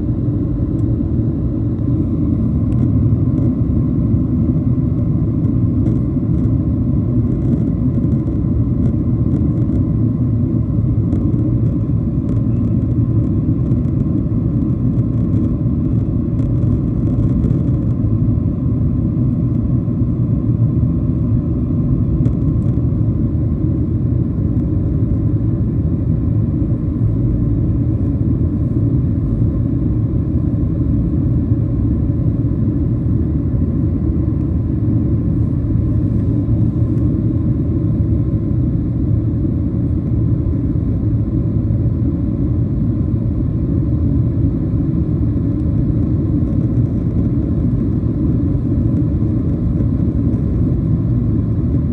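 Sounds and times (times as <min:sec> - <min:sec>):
airplane cabin engine rumble: 0:00.0 - 0:51.9.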